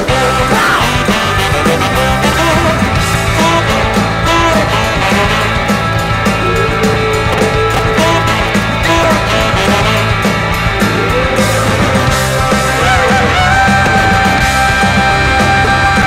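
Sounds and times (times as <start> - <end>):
jump blues band music: 0.0 - 16.0
horn long note: 0.8 - 16.0.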